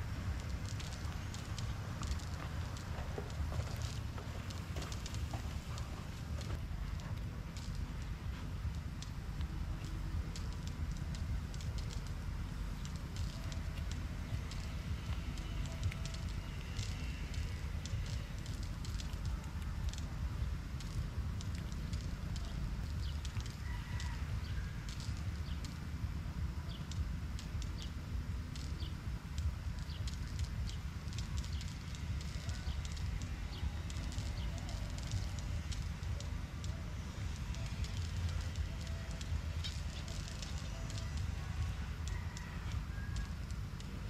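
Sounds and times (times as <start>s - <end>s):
plant stems crackling and rustling: 0.0s - 44.0s
steady low rumble: 0.0s - 44.0s.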